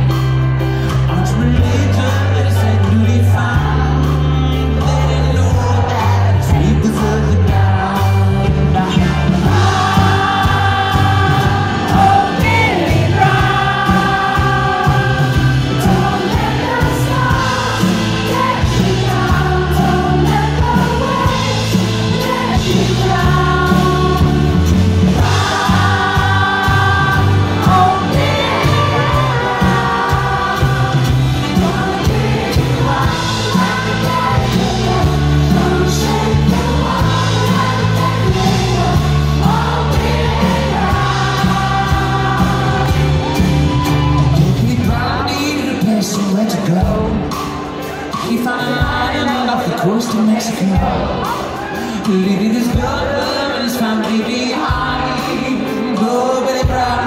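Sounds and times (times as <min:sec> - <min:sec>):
grand piano: 0:00.0 - 0:50.0
live pop band: 0:00.0 - 0:57.0
voices singing held notes: 0:01.0 - 0:57.0.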